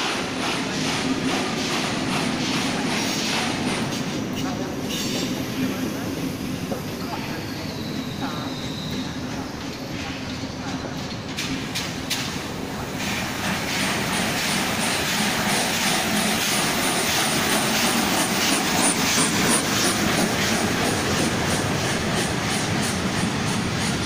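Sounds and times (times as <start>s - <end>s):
train rushing past: 0.0s - 24.0s.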